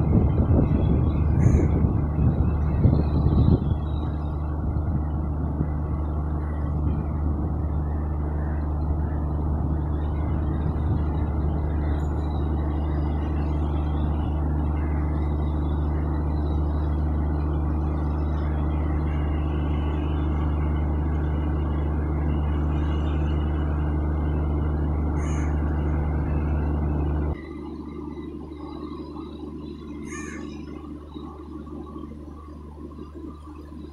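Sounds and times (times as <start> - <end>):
electric locomotive humming: 0.0 - 33.9.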